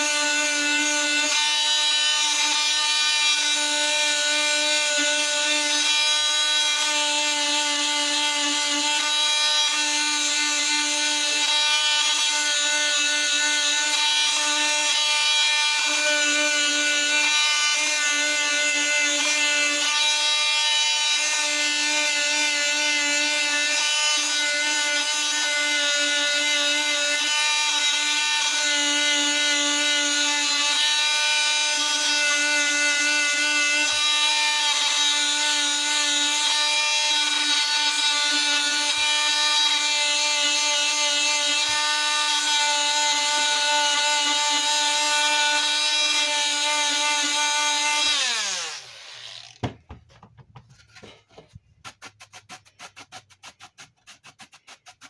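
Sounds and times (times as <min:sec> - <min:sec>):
rotary carving tool grinding wood: 0:00.0 - 0:55.0.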